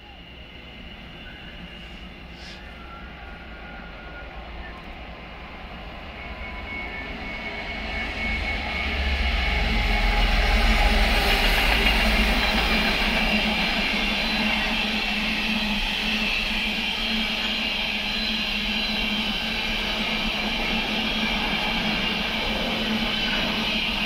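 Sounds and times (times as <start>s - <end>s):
train wheels on track: 0.0s - 24.0s.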